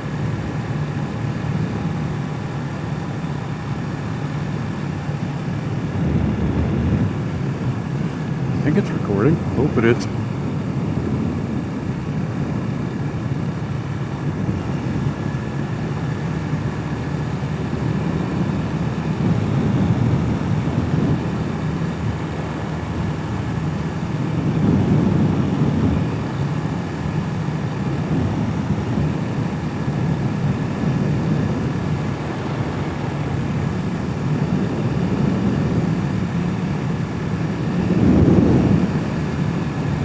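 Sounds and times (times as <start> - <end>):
motorcycle engine running: 0.0 - 40.0
wind noise: 0.0 - 40.0.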